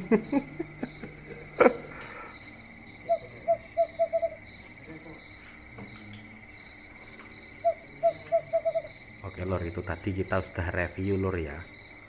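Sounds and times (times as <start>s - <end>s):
insects chirring: 0.0s - 12.0s
night animal calls: 0.0s - 12.0s.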